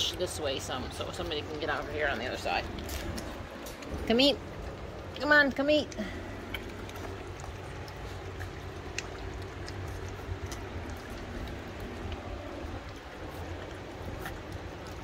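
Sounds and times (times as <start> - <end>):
constant low hum: 0.0 - 15.0
puppies lapping and slurping: 0.0 - 15.0.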